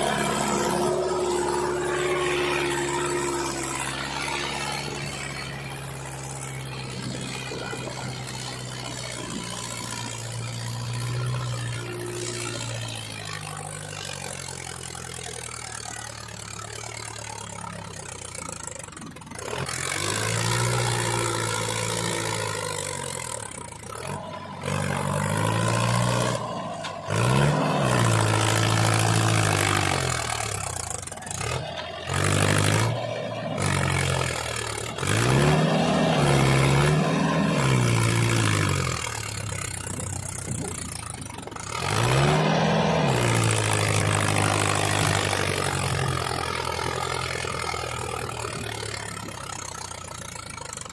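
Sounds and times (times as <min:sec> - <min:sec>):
tractor engine revving: 0:00.0 - 0:50.9.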